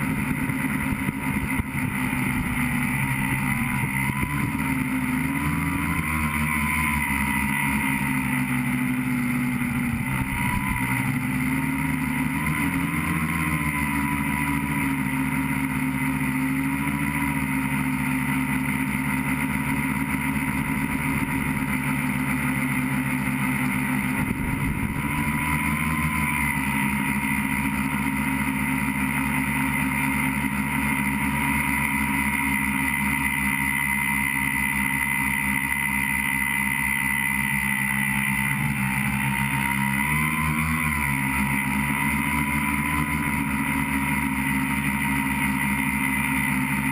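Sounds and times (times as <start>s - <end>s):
electric motor and propeller whine: 0.0s - 46.9s.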